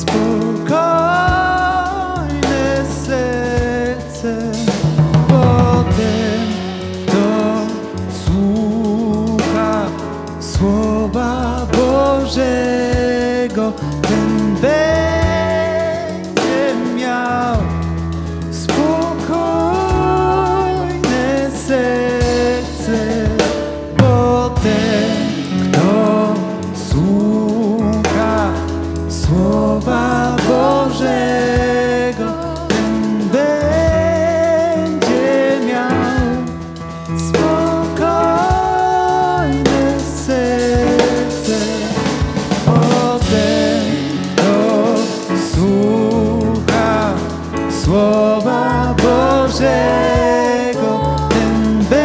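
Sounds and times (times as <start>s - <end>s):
band accompaniment: 0.0s - 52.0s
person singing worship song: 0.0s - 52.0s.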